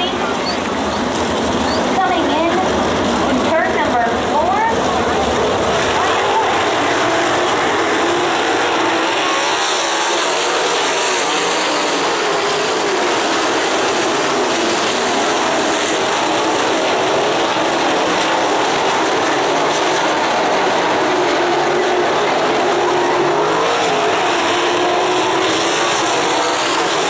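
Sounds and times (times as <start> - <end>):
racing car engines droning: 0.0 - 27.0.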